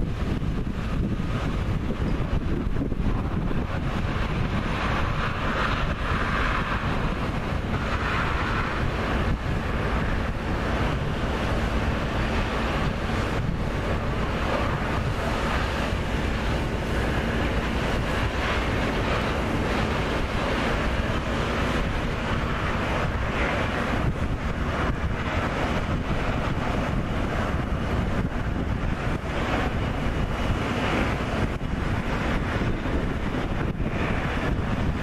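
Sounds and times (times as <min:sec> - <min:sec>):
steady rushing noise: 0:00.0 - 0:35.0
wind buffeting microphone: 0:00.0 - 0:35.0.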